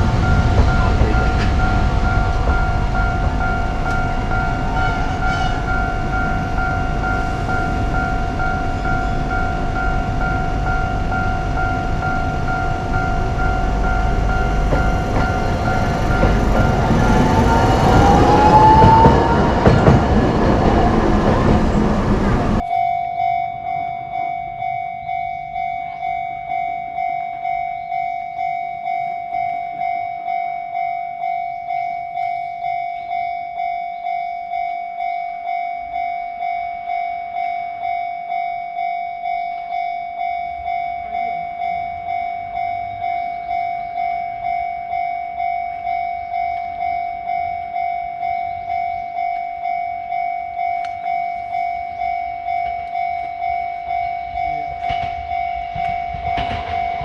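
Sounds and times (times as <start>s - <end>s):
level-crossing warning bell: 0.0s - 57.0s.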